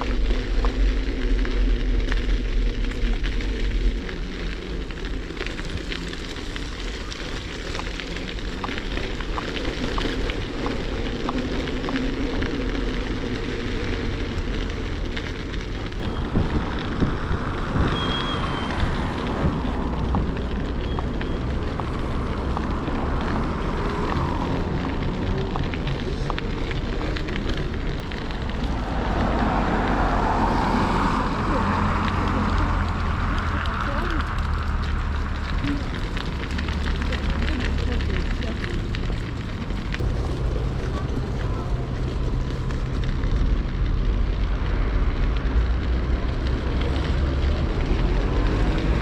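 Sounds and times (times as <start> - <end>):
tyres crackling over snow: 0.0 - 49.0
wind rumble on microphone: 0.0 - 49.0.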